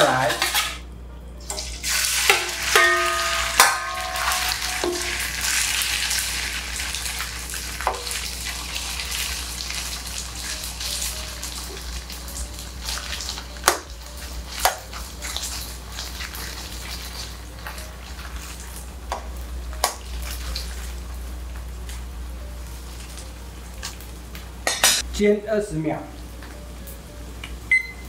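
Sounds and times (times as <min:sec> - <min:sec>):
fish sizzling in hot oil: 0:01.5 - 0:24.5.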